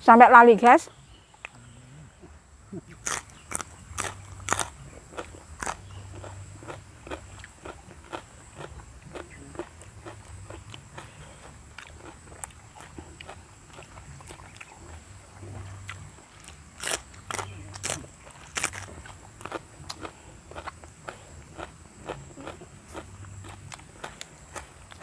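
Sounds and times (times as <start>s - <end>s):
crunchy bites and chewing: 2.9s - 25.0s.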